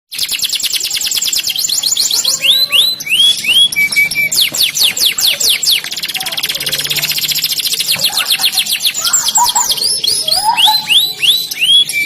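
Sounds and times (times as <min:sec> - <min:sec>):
canary singing: 0:00.1 - 0:12.0.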